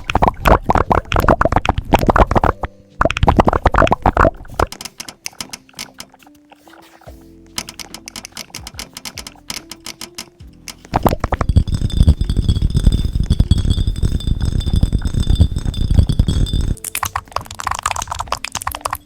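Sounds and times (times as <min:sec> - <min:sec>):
computer keyboard typing: 0:00.0 - 0:06.4, 0:07.0 - 0:19.0
background music: 0:00.0 - 0:19.0.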